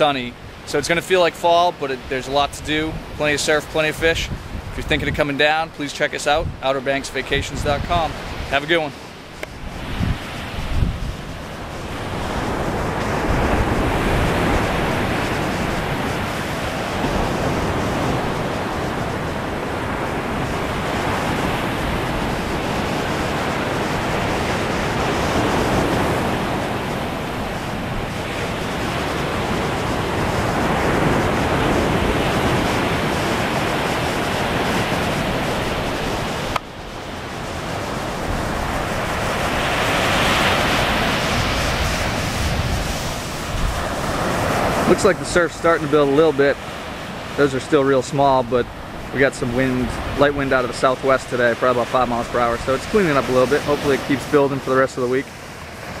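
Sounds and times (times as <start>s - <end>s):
ocean surf breaking on beach: 0.0s - 56.0s
wind rumbling on microphone: 2.0s - 56.0s.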